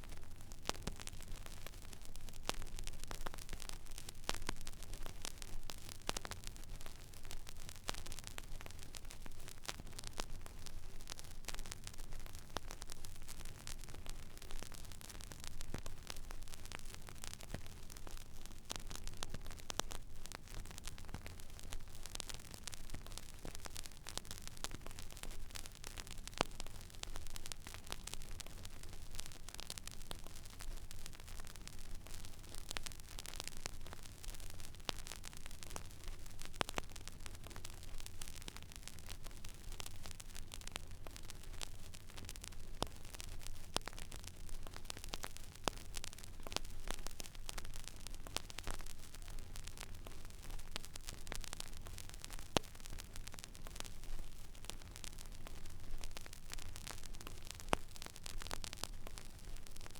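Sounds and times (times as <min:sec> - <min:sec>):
vinyl crackles and pops: 0:00.0 - 0:59.9
vinyl record surface hiss: 0:00.0 - 0:59.9.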